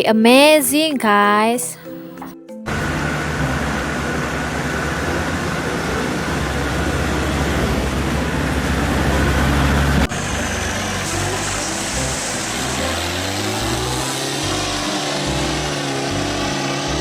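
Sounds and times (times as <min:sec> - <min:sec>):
broad rushing noise: 0:02.7 - 0:17.0
vehicle engine running: 0:02.7 - 0:17.0.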